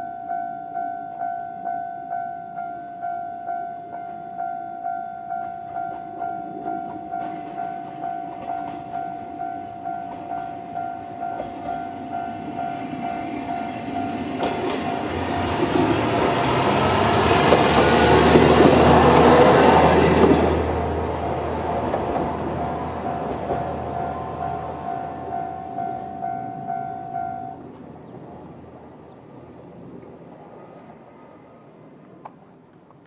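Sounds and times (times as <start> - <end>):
level crossing warning bell: 0.0 - 29.2
diesel railcar passing: 0.0 - 33.0.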